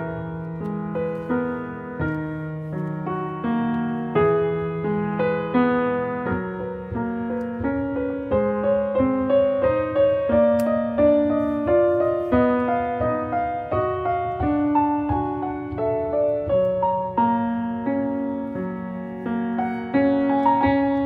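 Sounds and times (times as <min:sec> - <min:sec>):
piano waltz: 0:00.0 - 0:21.0.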